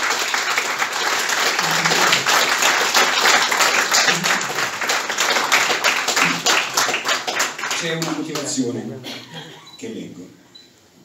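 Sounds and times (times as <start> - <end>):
people applauding: 0.0 - 8.8.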